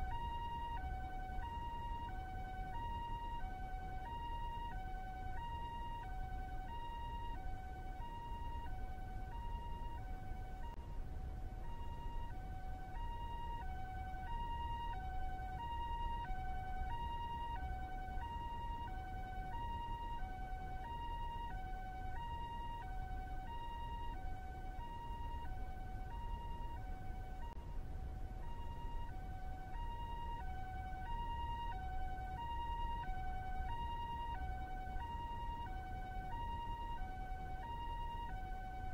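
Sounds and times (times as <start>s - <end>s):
steady low rumble: 0.0s - 38.9s
two-tone ambulance siren: 0.0s - 38.9s.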